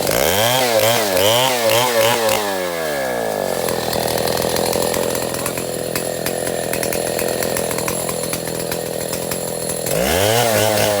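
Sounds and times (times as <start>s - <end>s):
chainsaw cutting: 0.0s - 11.0s.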